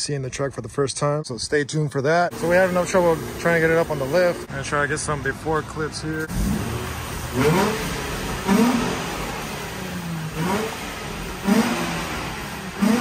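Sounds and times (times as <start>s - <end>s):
car engine idling: 2.3s - 13.0s
engine throttle blips: 2.3s - 13.0s.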